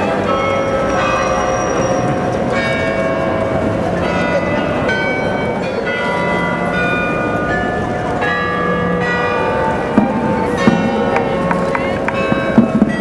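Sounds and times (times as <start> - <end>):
bells ringing a tune: 0.0 - 13.0.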